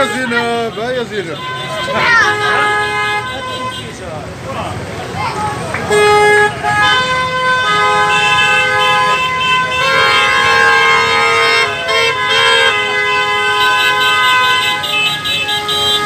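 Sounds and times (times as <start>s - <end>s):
vehicle horns honking: 0.0s - 4.2s, 5.8s - 16.0s.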